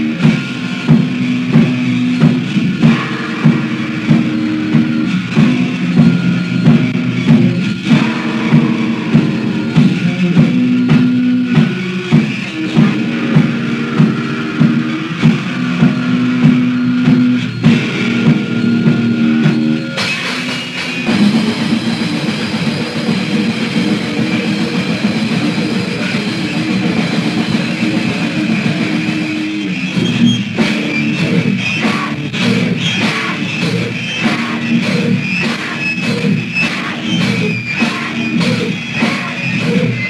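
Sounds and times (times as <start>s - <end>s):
bass guitar: 0.0s - 40.0s
distorted electric guitar: 0.0s - 40.0s
drum kit playing: 0.0s - 40.0s.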